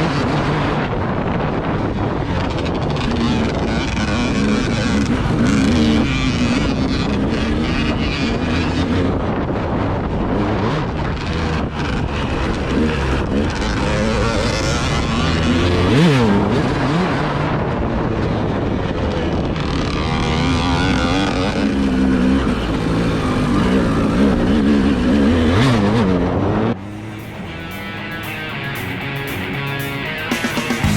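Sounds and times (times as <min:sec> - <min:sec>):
vehicle engine revving: 0:00.0 - 0:30.9.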